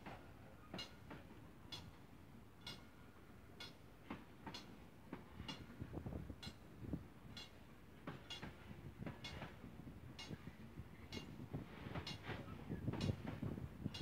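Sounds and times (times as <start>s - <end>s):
train wheels clicking on rails: 0.0s - 14.0s.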